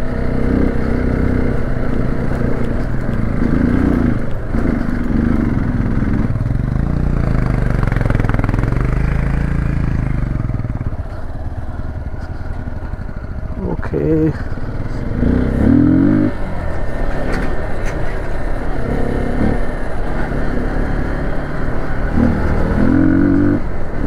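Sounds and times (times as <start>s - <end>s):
motorcycle engine revving: 0.0s - 24.0s
road noise: 0.0s - 24.0s
wind: 0.0s - 24.0s.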